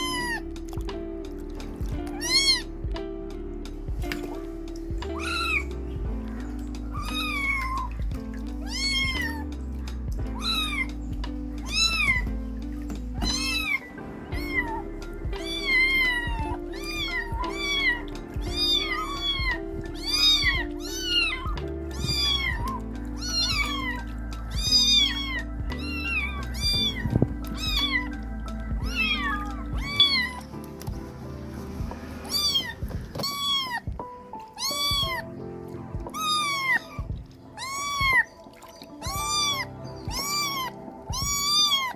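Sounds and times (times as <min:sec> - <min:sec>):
kittens meowing: 0:00.0 - 0:00.8, 0:01.7 - 0:03.0, 0:04.1 - 0:31.0, 0:32.2 - 0:35.4, 0:36.0 - 0:41.9
background music: 0:00.0 - 0:41.9.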